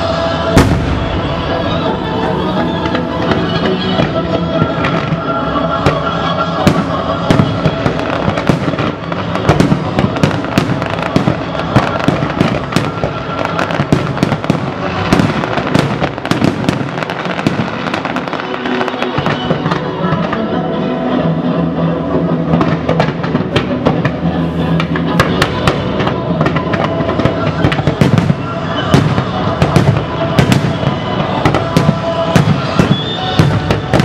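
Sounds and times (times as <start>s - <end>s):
fireworks bangs and crackles: 0.0s - 34.0s
music playing: 0.0s - 34.0s.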